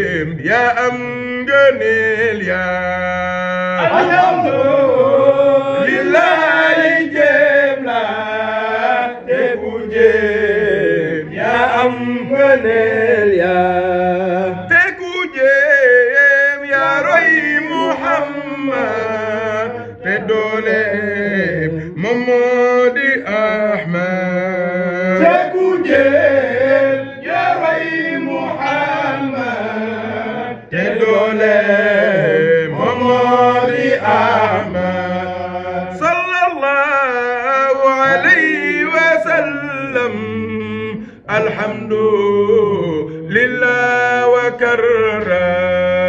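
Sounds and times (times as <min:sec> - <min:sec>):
man singing ornamented phrases: 0:00.0 - 0:46.0.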